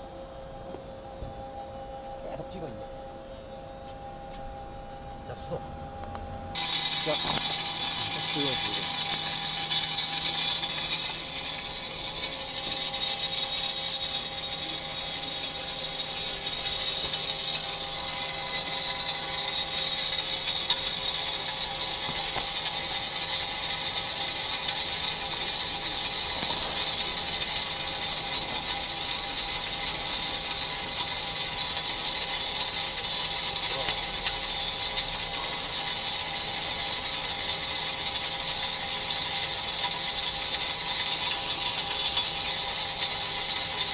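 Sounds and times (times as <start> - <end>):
motor hum: 0.0 - 43.9
brake lathe scraping hiss: 6.5 - 43.9.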